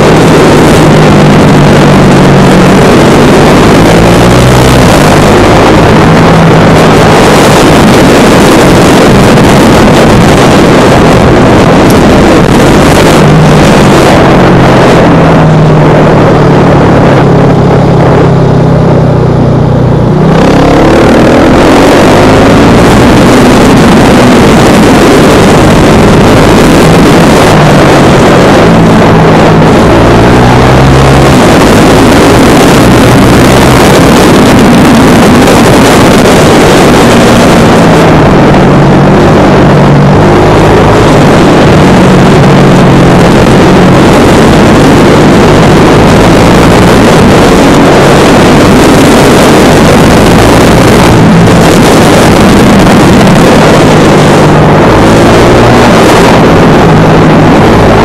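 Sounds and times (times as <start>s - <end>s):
motorcycle engine revving: 0.0s - 58.0s
wind rush over microphone: 0.0s - 58.0s.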